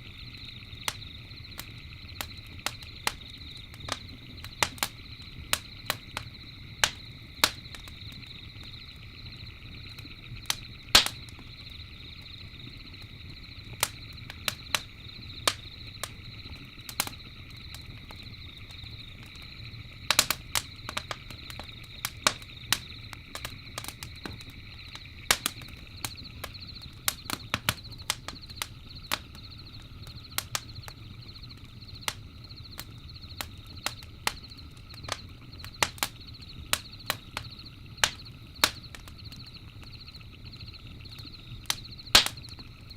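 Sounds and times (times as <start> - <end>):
campfire crackling and popping: 0.0 - 42.9
crickets chirring: 0.0 - 42.9.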